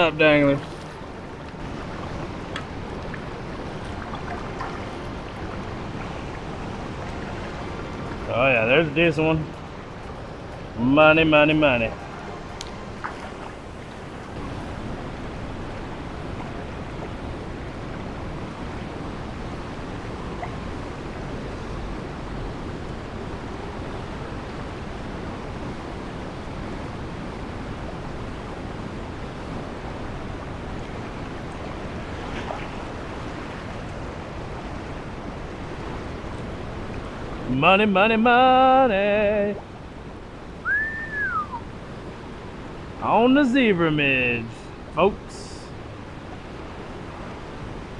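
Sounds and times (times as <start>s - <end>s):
fast-flowing river: 0.0s - 47.9s.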